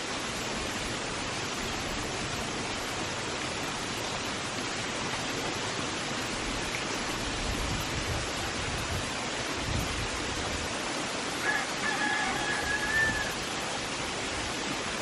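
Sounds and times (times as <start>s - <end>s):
water rushing over dam spillway: 0.0s - 15.0s.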